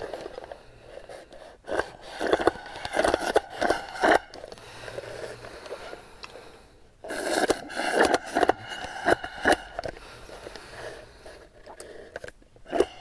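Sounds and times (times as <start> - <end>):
scraping and crackling drinking: 0.0 - 13.0.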